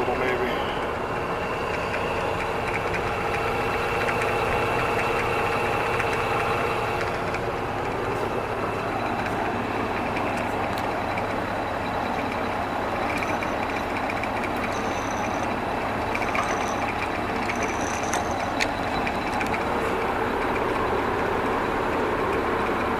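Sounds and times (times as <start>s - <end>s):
drill press motor hum: 0.0s - 22.9s.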